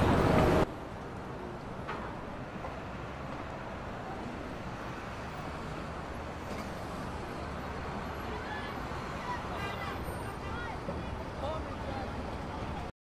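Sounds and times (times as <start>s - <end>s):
street noise: 0.0s - 12.9s.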